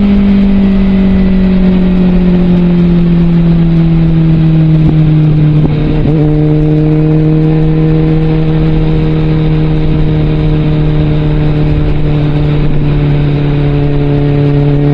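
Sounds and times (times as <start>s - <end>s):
motorcycle engine cruising: 0.0s - 14.9s.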